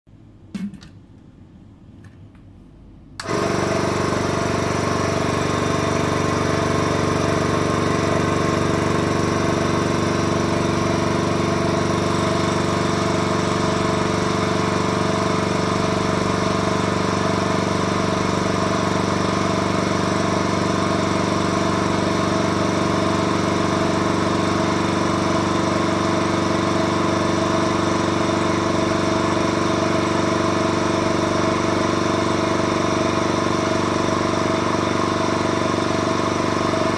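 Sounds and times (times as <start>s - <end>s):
vacuum pump running: 3.2s - 36.9s.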